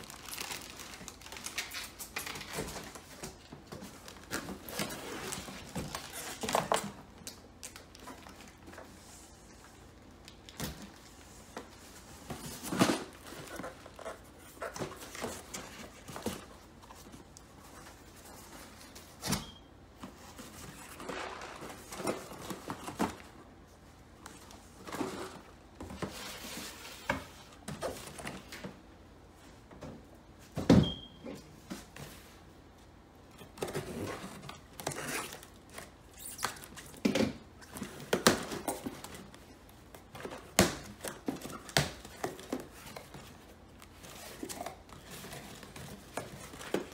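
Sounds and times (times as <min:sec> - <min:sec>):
boxes rustling and scraping: 0:00.0 - 0:07.2, 0:07.8 - 0:30.6, 0:31.4 - 0:46.9.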